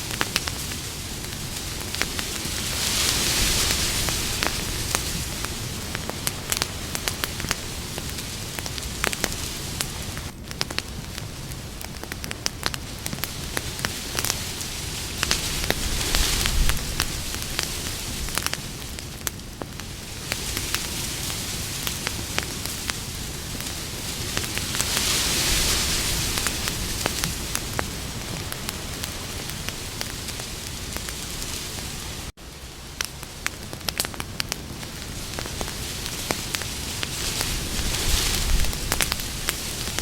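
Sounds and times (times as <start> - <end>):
campfire hissing and crackling: 0.0 - 40.0.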